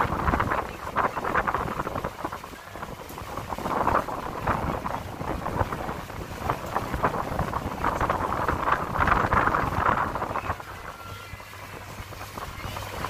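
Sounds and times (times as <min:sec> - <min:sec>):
low rumble of boat moving: 0:00.0 - 0:13.0
wind buffeting microphone: 0:00.0 - 0:13.0.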